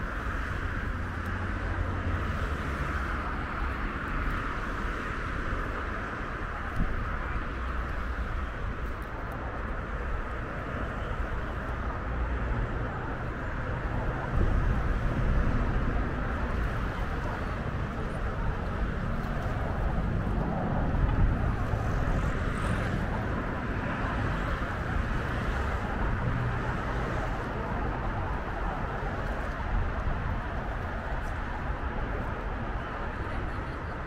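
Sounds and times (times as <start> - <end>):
road traffic hiss and hum: 0.0 - 34.0
wind buffeting microphone: 0.0 - 34.0.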